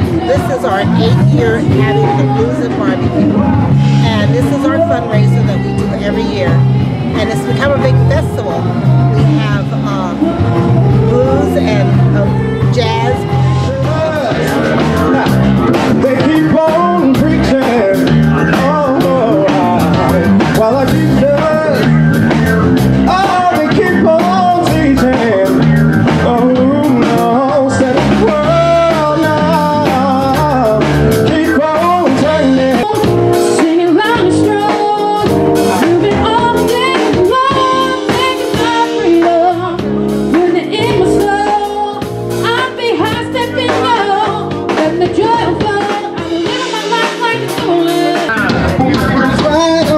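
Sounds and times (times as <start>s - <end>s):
blues band with guitar and drums: 0.0s - 49.9s
person singing: 0.0s - 49.9s.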